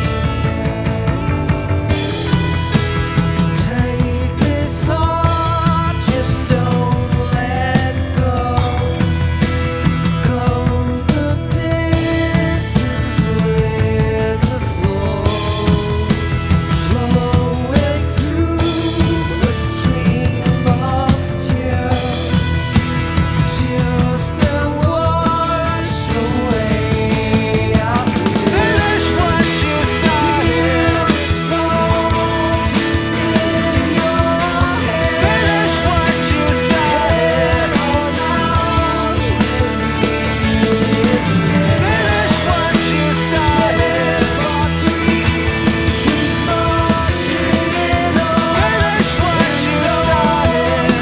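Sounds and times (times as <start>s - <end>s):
bending lead guitar lines: 0.0s - 51.0s
drums steady beat: 0.0s - 51.0s
rock band playing live: 0.0s - 51.0s.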